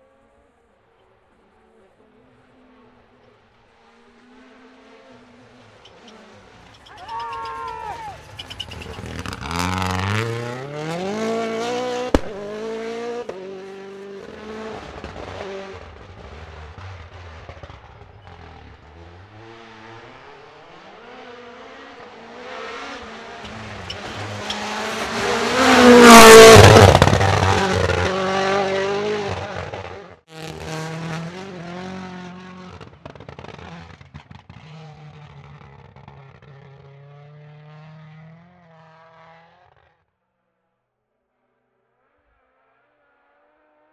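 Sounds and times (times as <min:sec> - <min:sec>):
quieter engine steady revs: 0:00.0 - 0:39.8
car passing at full throttle: 0:01.5 - 0:39.9
rally car engine revving: 0:01.6 - 0:39.9.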